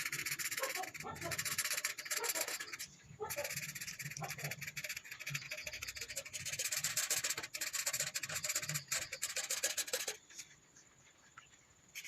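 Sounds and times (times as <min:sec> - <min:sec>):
colouring tool scratching paper: 0:00.0 - 0:10.3.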